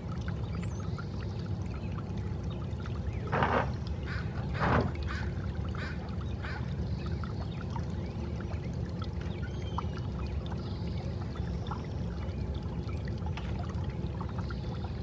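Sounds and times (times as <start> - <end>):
water trickling and lapping: 0.0 - 15.0.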